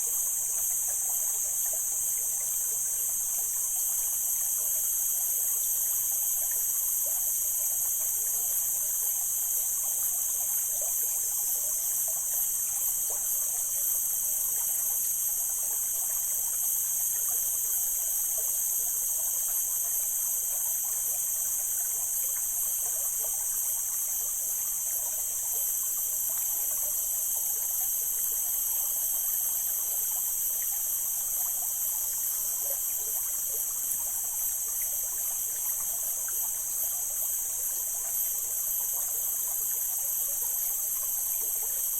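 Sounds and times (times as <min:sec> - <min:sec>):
stream flowing and trickling: 0:00.0 - 0:41.9.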